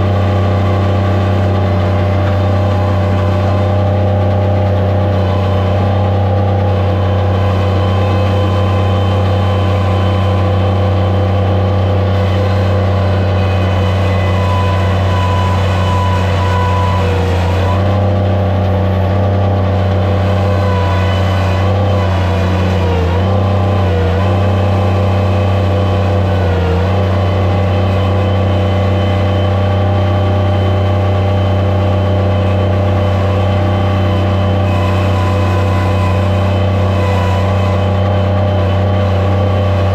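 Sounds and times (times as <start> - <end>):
loader engine running at high revs: 0.0 - 39.9.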